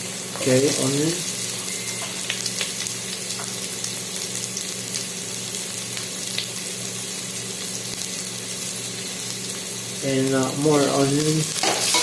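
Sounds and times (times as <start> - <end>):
onion sizzling in a pan: 0.0 - 12.0.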